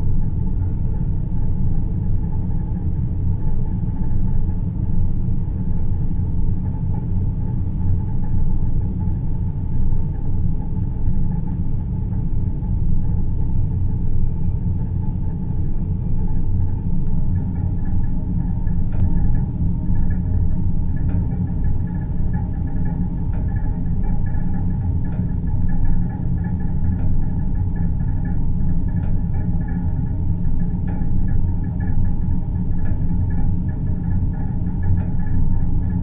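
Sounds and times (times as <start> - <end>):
deep rumbling drone: 0.0 - 36.0.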